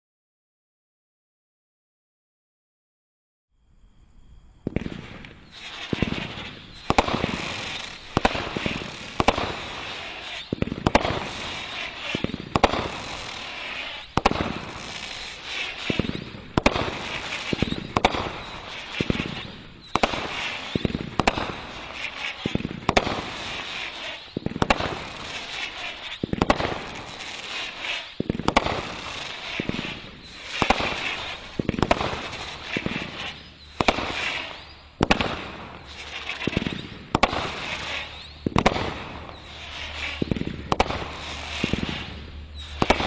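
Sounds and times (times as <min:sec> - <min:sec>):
fireworks whistling and chattering: 0:03.6 - 0:43.0
fireworks shots: 0:04.6 - 0:43.0.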